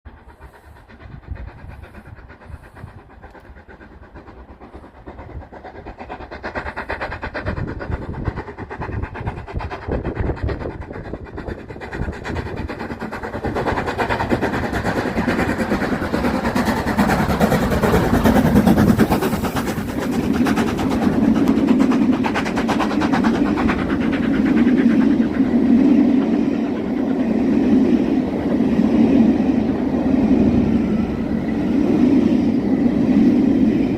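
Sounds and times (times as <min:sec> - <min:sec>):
steam train passing: 0:00.0 - 0:33.9
wheels running on rails: 0:00.1 - 0:33.9.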